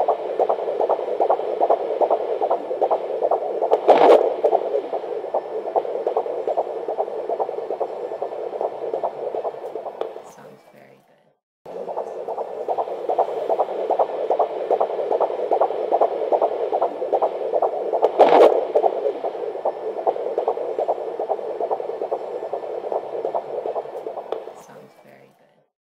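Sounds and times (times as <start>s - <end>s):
fetal heartbeat on doppler: 0.0s - 11.0s, 11.7s - 25.4s.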